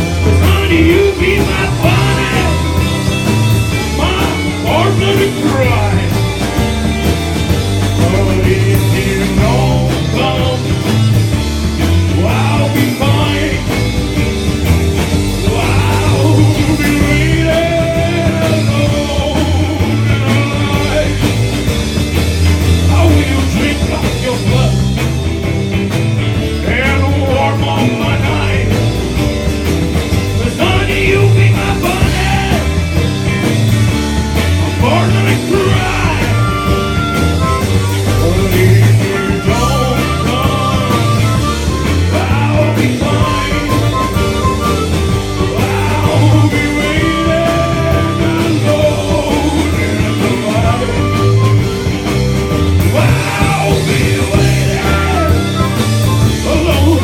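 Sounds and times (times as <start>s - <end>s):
bass and drum beat: 0.0s - 57.0s
bending melodic lead line: 0.0s - 57.0s
country-rock band playing: 0.0s - 57.0s.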